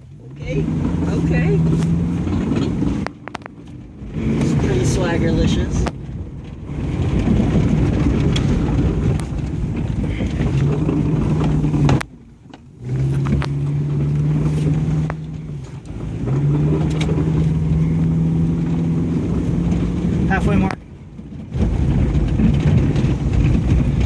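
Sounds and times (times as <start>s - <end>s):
car engine pulling hard: 0.0s - 24.0s.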